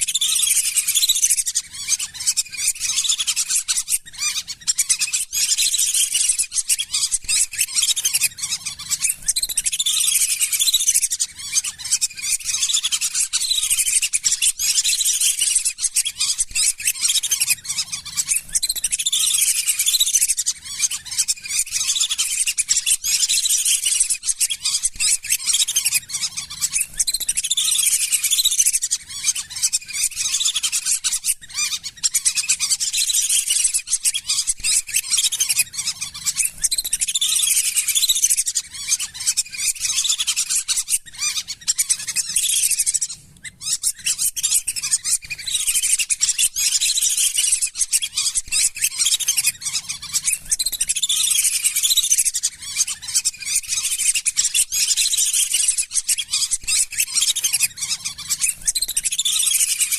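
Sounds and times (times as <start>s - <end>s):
ducks whistling calls: 0.0s - 59.9s.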